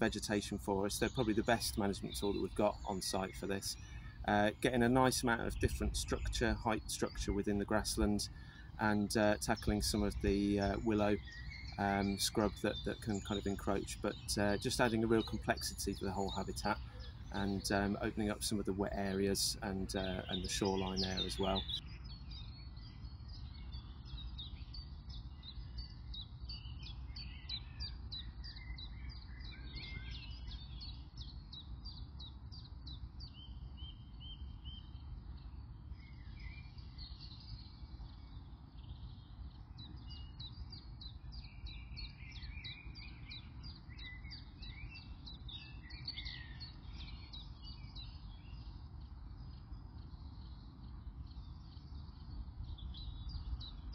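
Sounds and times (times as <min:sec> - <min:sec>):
wild birds chirping and singing: 0:00.0 - 0:53.9.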